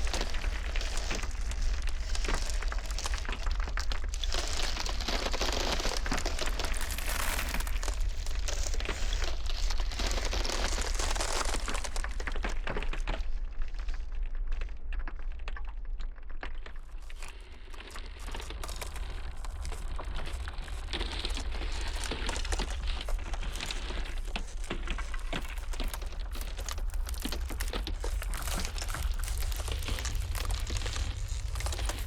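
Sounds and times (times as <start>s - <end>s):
ice cracking and snapping: 0.0s - 13.8s, 14.9s - 32.0s
low rumble of blizzard wind: 0.0s - 13.8s, 17.6s - 32.0s.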